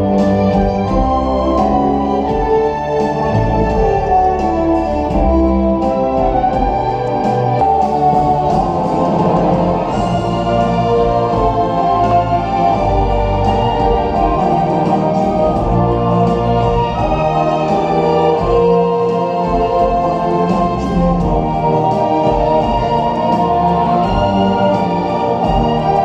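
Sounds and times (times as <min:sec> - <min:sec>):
instrumental music with held chords: 0:00.0 - 0:26.0.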